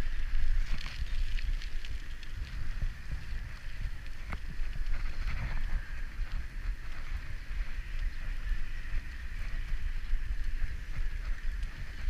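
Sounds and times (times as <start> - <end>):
bicycle tyres hissing on wet path: 0.0 - 12.0
wind buffeting microphone: 0.0 - 12.0.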